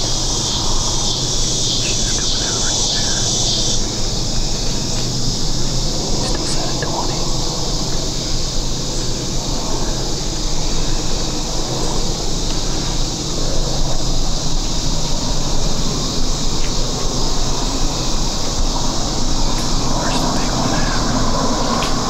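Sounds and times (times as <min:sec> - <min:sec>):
constant high hiss: 0:00.0 - 0:22.0.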